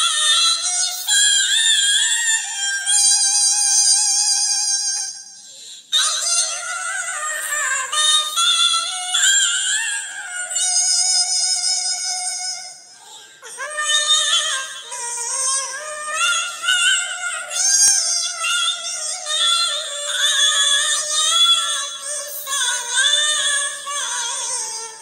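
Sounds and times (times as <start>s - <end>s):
high synthetic singing voice: 0.0s - 25.0s.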